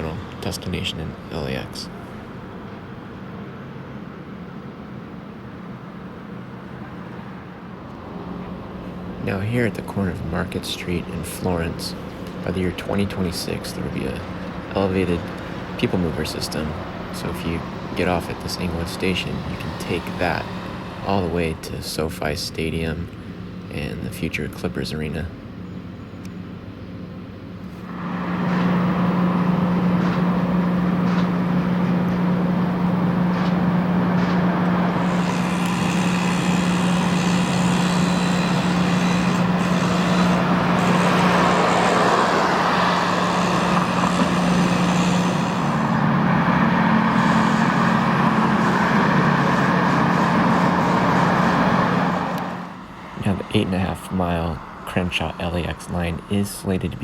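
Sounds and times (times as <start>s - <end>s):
heavy vehicle engine running: 0.0s - 57.0s
steady hum: 0.0s - 57.0s
street traffic: 0.0s - 57.0s.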